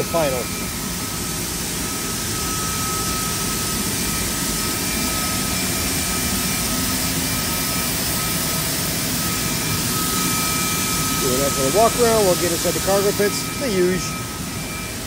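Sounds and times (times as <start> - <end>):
high-pitched whine: 0.0 - 15.0
jet turbine noise: 0.0 - 15.0.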